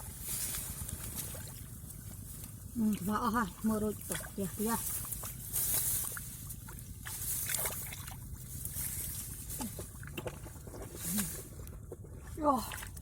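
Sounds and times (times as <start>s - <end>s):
muddy water sloshing: 0.0s - 13.0s.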